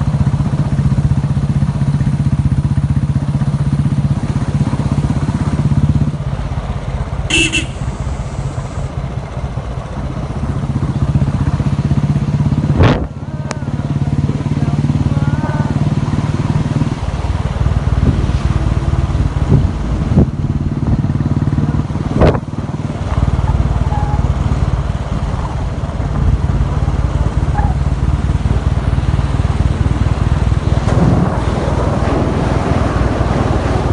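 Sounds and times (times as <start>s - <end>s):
motorcycle engine riding: 0.0s - 33.9s.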